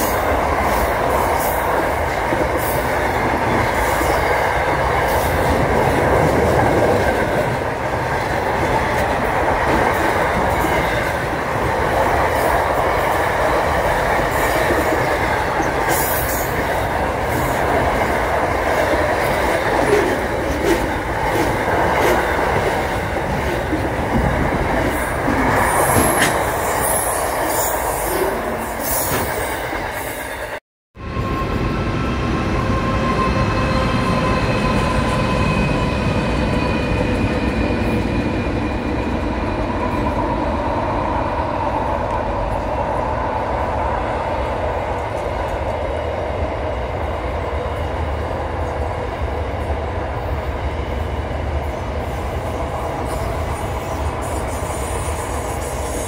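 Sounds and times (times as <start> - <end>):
distant freight train rumble: 0.0 - 56.0.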